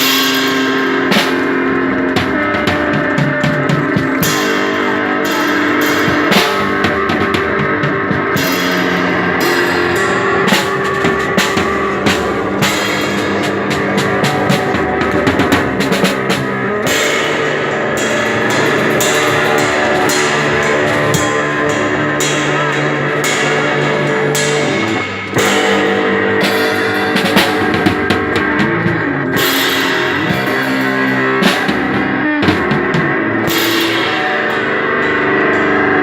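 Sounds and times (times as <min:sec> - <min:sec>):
distorted electric guitar: 0:00.0 - 0:36.0
drum kit playing: 0:00.0 - 0:36.0.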